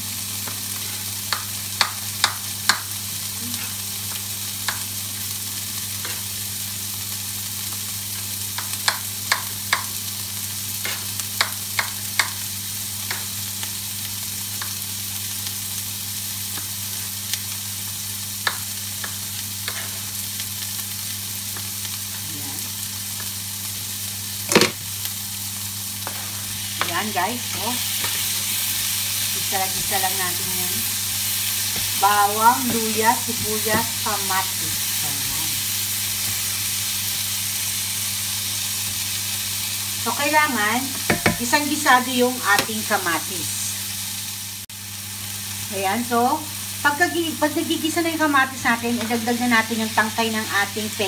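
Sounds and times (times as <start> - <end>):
vegetables sizzling in hot oil: 0.0 - 51.0.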